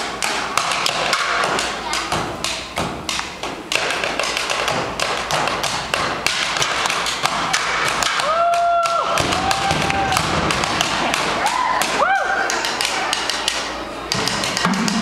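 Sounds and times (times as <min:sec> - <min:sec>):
percussion on trash cans and buckets: 0:00.0 - 0:15.0.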